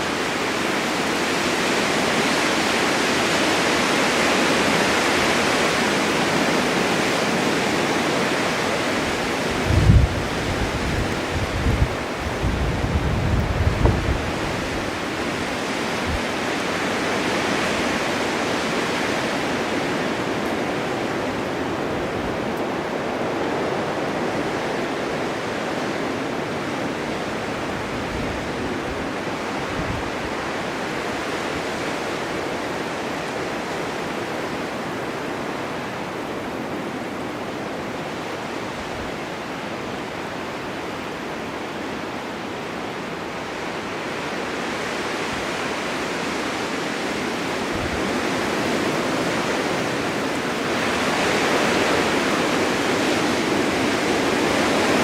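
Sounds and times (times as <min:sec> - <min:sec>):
blizzard wind rushing: 0:00.0 - 0:55.0.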